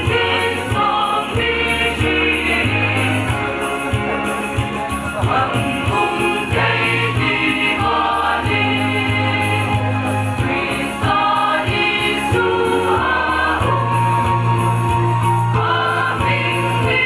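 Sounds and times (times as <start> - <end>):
mixed choir singing a hymn: 0.0 - 4.4, 5.2 - 17.0.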